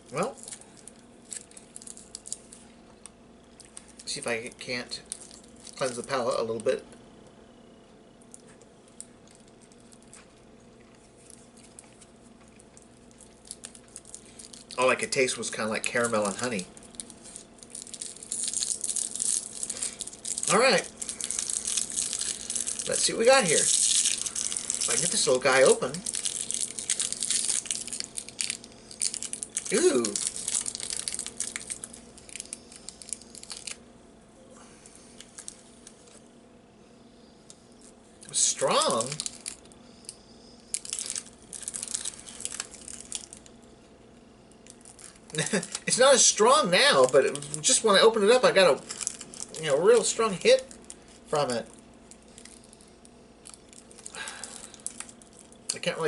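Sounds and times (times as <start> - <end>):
plastic candy wrapper crinkling: 0.0 - 6.8, 8.2 - 33.8, 35.0 - 36.2, 37.5 - 43.7, 44.5 - 56.0
faint steady hum: 0.0 - 56.0.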